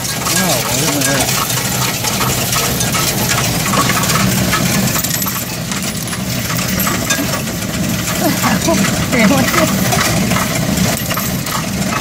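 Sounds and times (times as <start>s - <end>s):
coin counting machine humming: 0.0s - 12.0s
coins clinking and clattering: 0.0s - 12.0s.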